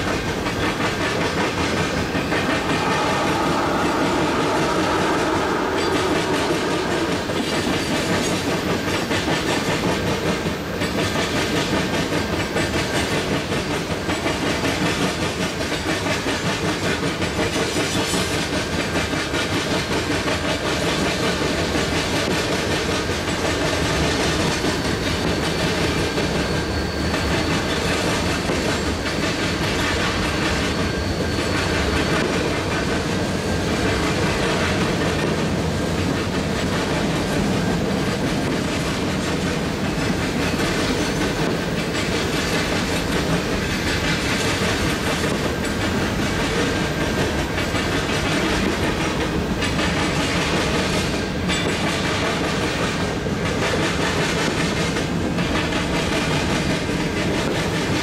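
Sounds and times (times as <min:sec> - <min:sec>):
freight train wheels rumbling: 0:00.0 - 0:58.0
wheels clickety-clack: 0:08.2 - 0:58.0.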